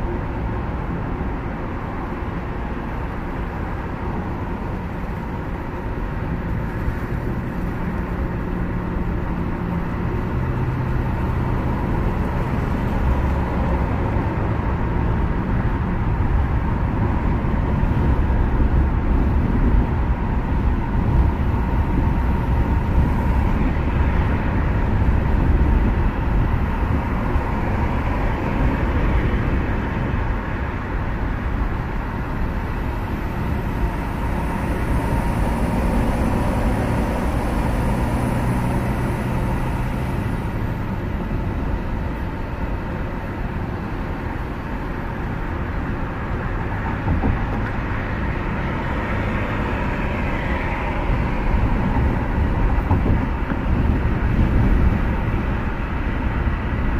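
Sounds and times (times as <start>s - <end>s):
car road and engine noise: 0.0s - 56.9s.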